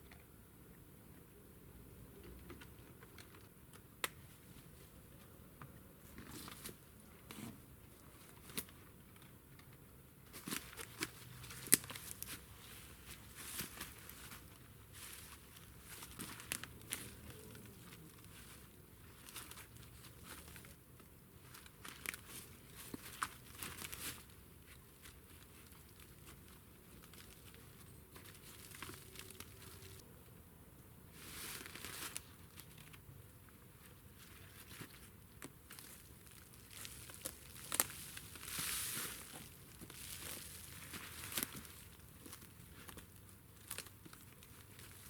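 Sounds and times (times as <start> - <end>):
rustling and crinkling: 2.2 - 30.1, 31.1 - 45.0.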